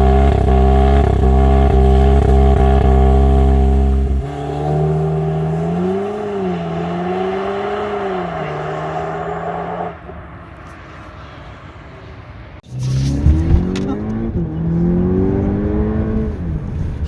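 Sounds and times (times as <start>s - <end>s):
car engine running: 0.0s - 11.1s, 12.6s - 17.0s.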